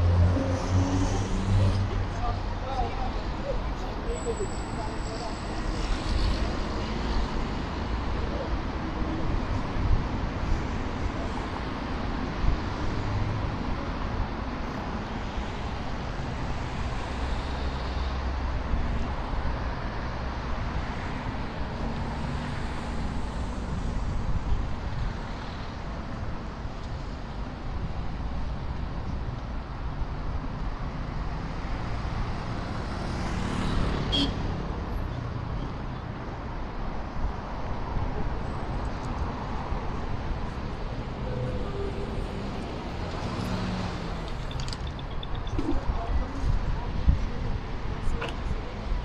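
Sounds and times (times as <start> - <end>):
cars and trucks passing: 0.0 - 49.0.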